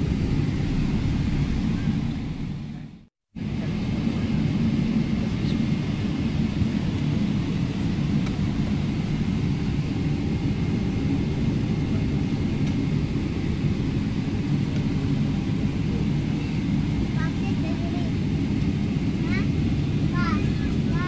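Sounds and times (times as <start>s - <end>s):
jet engines rumbling in cabin: 0.0s - 21.0s.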